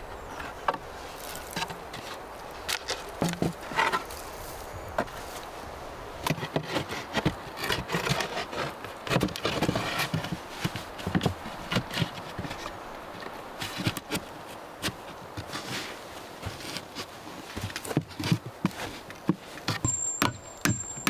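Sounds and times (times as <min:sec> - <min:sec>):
wooden planks knocking and scraping: 0:00.2 - 0:04.1, 0:06.2 - 0:21.0.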